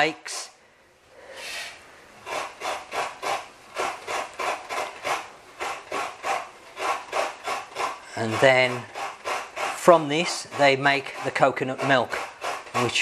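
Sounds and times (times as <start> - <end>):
coconut scraping on grater blade: 2.2 - 13.0.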